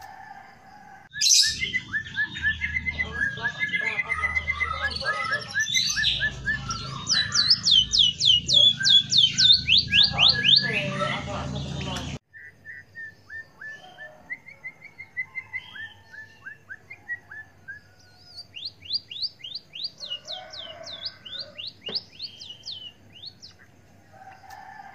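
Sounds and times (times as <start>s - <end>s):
songbird chirping: 0.0s - 24.9s.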